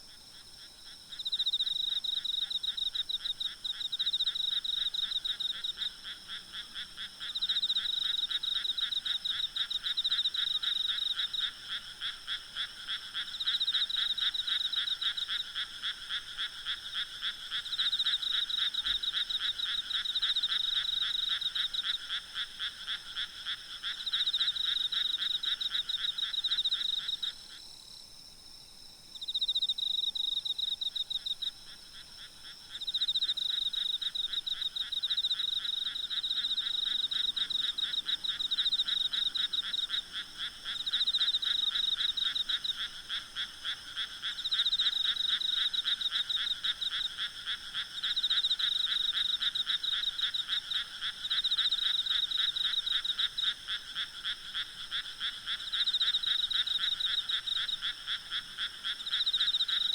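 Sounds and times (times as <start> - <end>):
insects trilling: 0.1 - 59.9
frogs calling: 1.1 - 27.6, 29.2 - 59.9.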